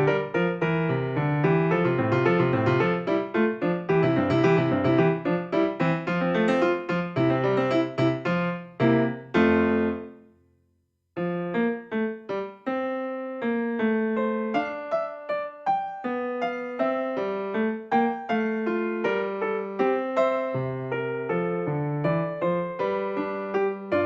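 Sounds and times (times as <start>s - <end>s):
gentle piano music: 0.0s - 10.3s, 11.2s - 24.0s.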